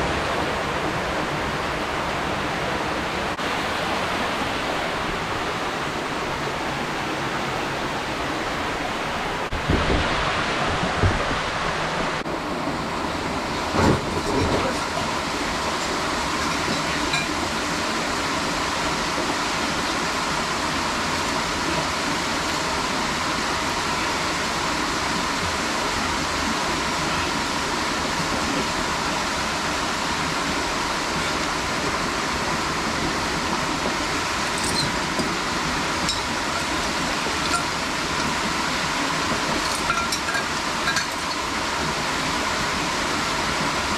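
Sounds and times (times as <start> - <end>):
falling water rushing: 0.0 - 43.9.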